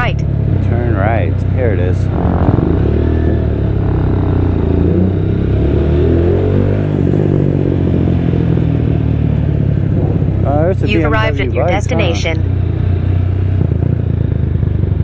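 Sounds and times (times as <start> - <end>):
motorcycle engine at low revs: 0.2 - 10.7, 12.4 - 15.0.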